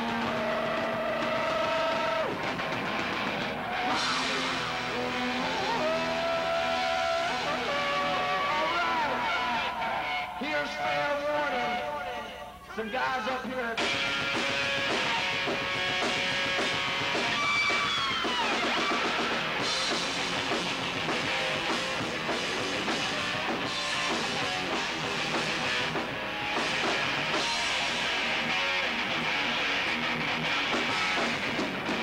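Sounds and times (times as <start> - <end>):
falling electric guitar pitch: 0.0 - 11.0, 13.8 - 32.0
rock band playing live: 0.0 - 12.1, 13.8 - 32.0.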